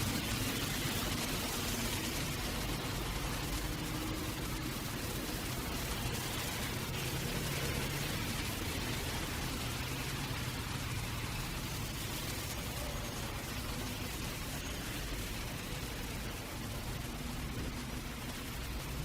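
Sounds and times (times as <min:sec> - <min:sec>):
city traffic rumble: 0:00.0 - 0:19.0
rain hissing and pattering: 0:00.0 - 0:19.0.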